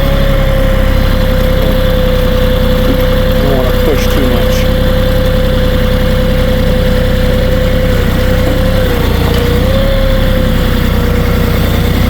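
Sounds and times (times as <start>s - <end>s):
high whine: 0.0s - 12.0s
plow pushing snow: 0.0s - 12.0s
tractor diesel engine running: 0.0s - 12.0s.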